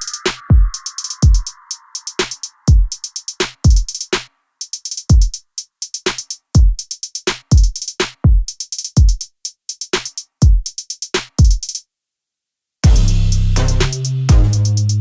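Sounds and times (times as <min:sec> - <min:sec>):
electronic drum machine beat: 0:00.0 - 0:11.8, 0:12.8 - 0:15.0
fast hi-hats: 0:00.0 - 0:11.8, 0:12.8 - 0:15.0.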